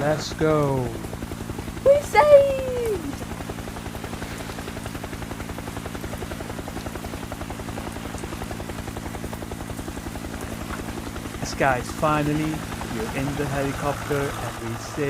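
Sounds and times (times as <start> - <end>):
helicopter rotor chop: 0.0 - 15.0.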